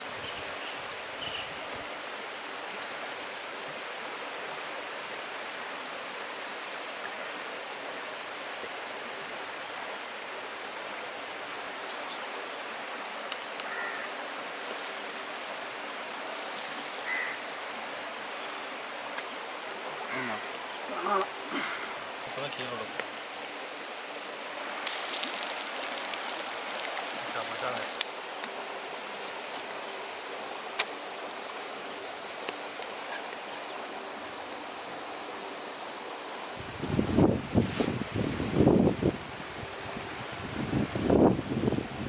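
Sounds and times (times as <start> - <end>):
river water rushing: 1.9 - 36.6.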